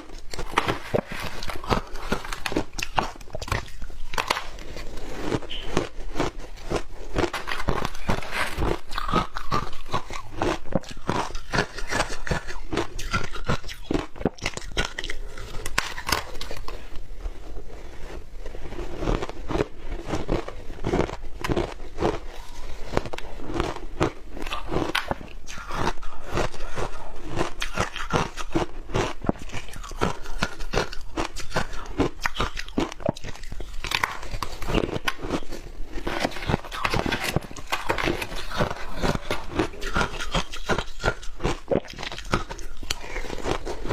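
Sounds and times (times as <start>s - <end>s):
crushed ice being chewed: 0.0s - 43.9s.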